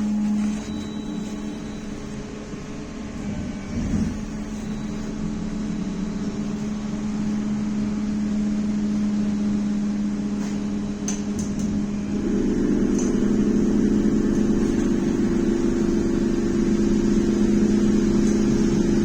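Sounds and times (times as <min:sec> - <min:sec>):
trolleybus electrical hum: 0:00.0 - 0:19.0.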